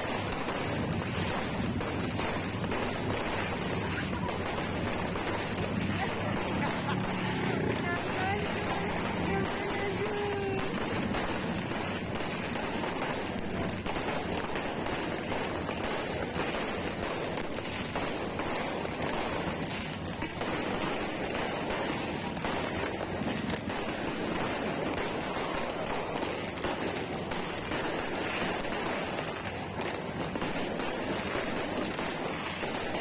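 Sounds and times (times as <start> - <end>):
fireworks popping and crackling: 0.0 - 33.0.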